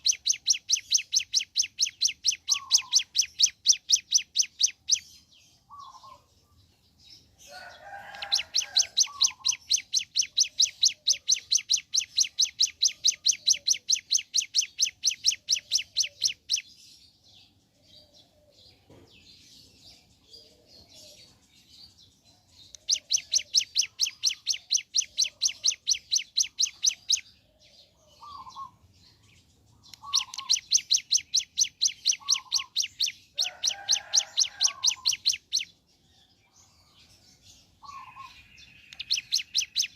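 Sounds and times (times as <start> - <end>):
bird singing rapid trills: 0.0 - 18.1, 19.7 - 39.9
soft low bird chirps: 0.0 - 39.9.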